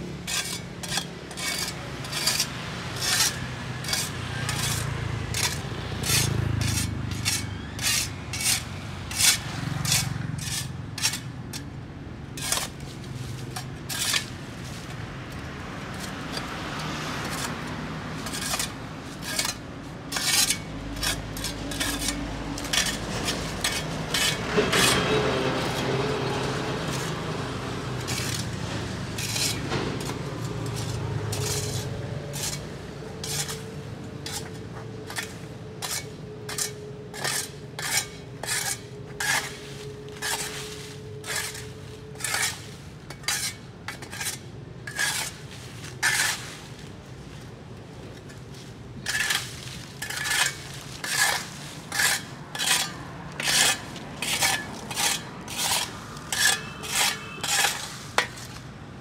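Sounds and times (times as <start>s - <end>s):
hand tools scraping pavement: 0.0s - 59.0s.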